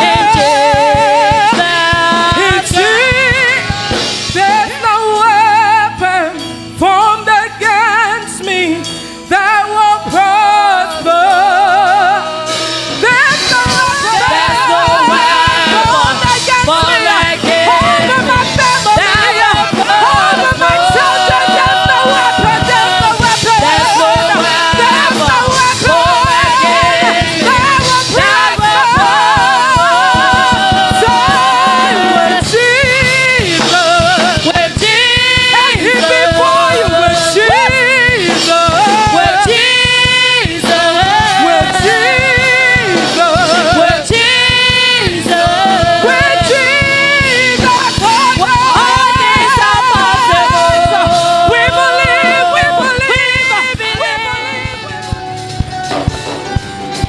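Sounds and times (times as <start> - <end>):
singers holding long notes: 0.0 - 6.0, 10.0 - 57.0
band with drums: 0.0 - 6.8, 10.1 - 57.0.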